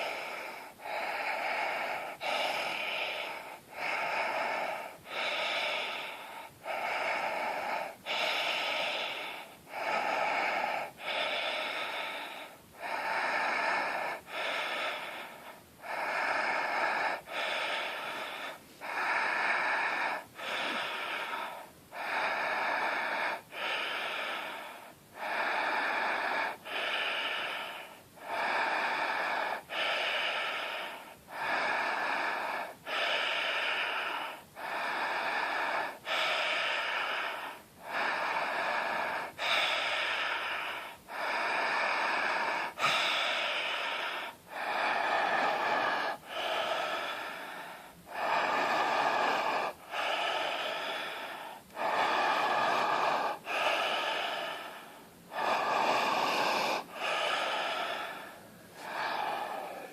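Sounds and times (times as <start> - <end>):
person breathing deeply: 0.0 - 59.9.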